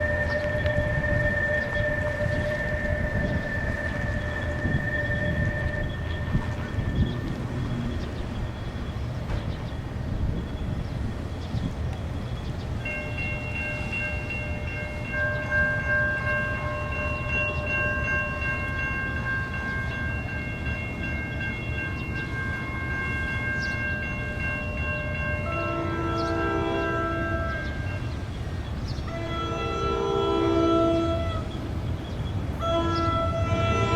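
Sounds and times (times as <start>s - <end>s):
train horn chord: 0.0s - 8.3s, 12.8s - 31.6s, 32.6s - 33.9s
steady high-pitched tones: 0.0s - 11.4s, 12.0s - 33.9s
train rumbling: 0.0s - 33.9s.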